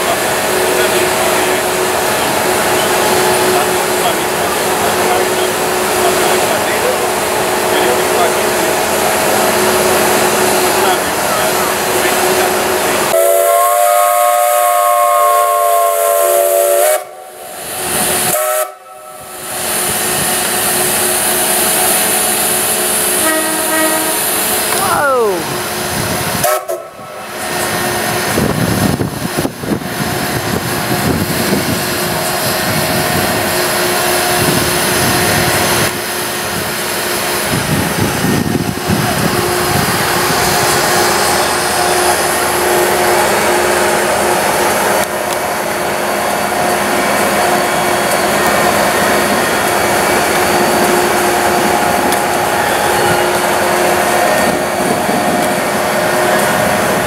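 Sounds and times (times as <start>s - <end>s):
electric locomotives whirring: 0.0s - 57.0s.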